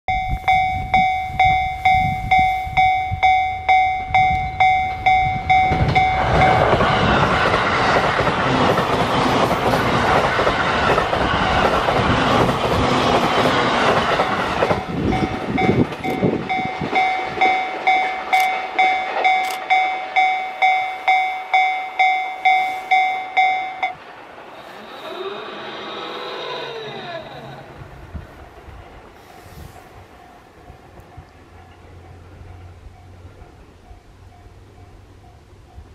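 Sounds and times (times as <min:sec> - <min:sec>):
level-crossing warning bell ringing: 0:00.1 - 0:12.1, 0:13.5 - 0:24.1, 0:29.7 - 0:35.9
train wheels rumbling and clacking: 0:00.1 - 0:35.9.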